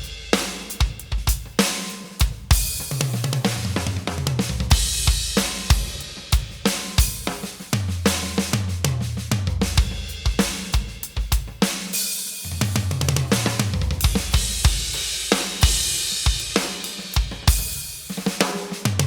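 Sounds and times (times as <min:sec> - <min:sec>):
electronic drum kit groove: 0:00.0 - 0:19.0.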